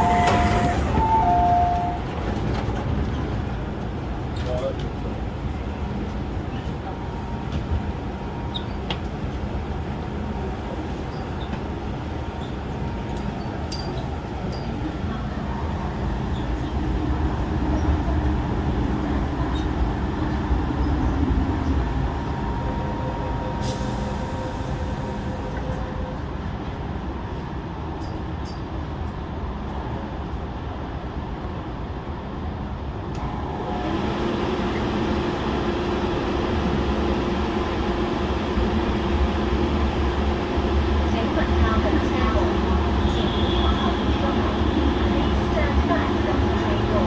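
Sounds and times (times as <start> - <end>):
electric train rolling rumble: 0.0 - 47.0.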